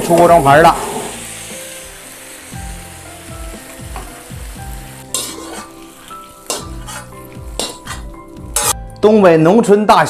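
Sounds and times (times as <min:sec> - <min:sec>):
stew sizzling in a wok: 0:00.0 - 0:08.8.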